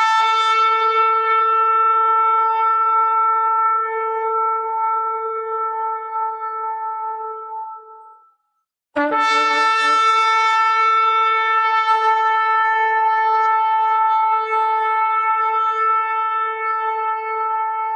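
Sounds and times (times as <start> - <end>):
shofar blast: 0.0 - 8.2, 9.0 - 17.9.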